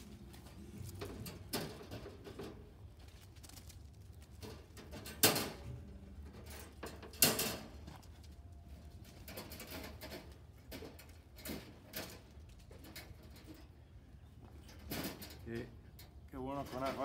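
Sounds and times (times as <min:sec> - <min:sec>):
wire cage clanking: 0:00.0 - 0:17.0.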